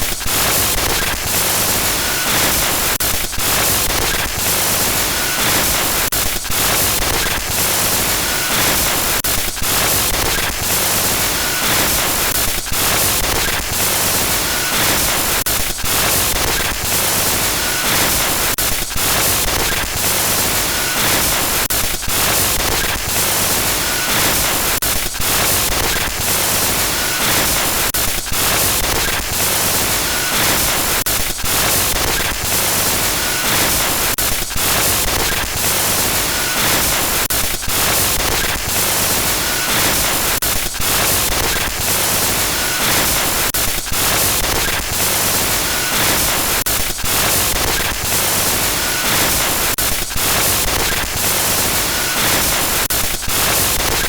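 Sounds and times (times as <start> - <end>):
harsh glitch static noise: 0.2 - 54.0.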